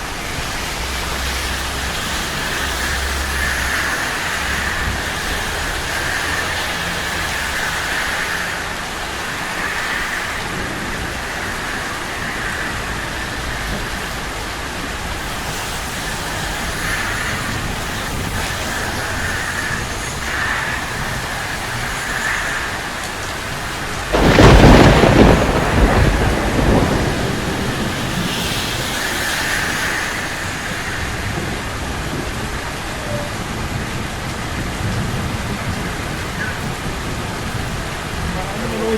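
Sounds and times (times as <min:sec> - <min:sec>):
steady rain: 0:00.0 - 0:38.9
thunderclap rumbling: 0:00.0 - 0:38.9.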